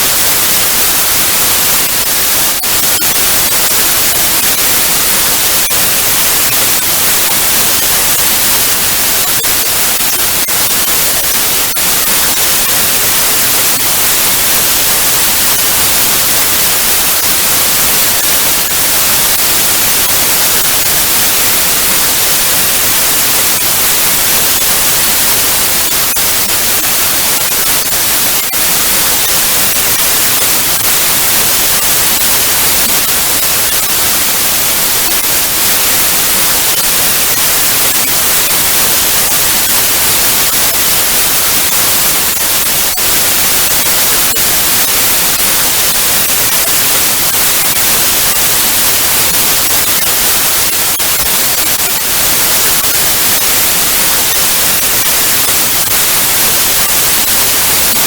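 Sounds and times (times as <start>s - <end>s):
television static hiss: 0.0s - 58.0s.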